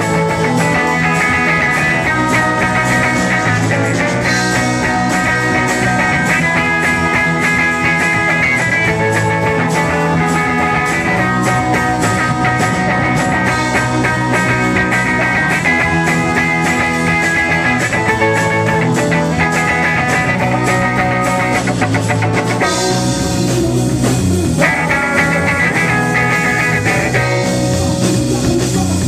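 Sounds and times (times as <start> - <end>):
electric bass: 0.0 - 29.0
electric guitar: 0.0 - 29.0
steady drumbeat: 0.0 - 29.0.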